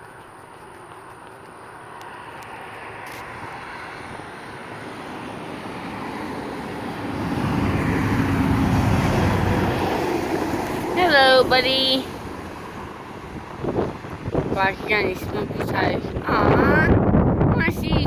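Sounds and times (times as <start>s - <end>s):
truck driving past: 1.5s - 16.2s.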